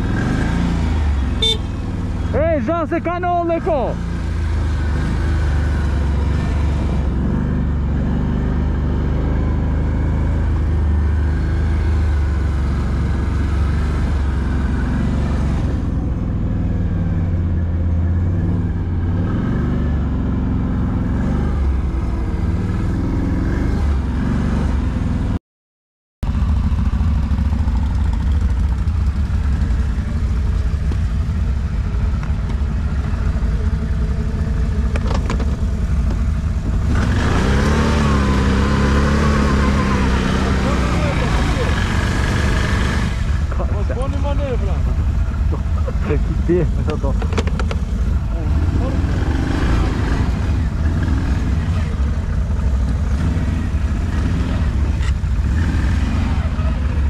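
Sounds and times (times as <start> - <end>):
atv engine running: 0.0 - 25.4, 26.2 - 57.0.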